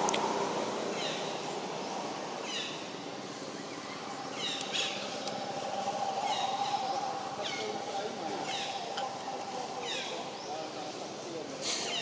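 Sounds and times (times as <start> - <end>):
steady background drone: 0.0 - 11.6.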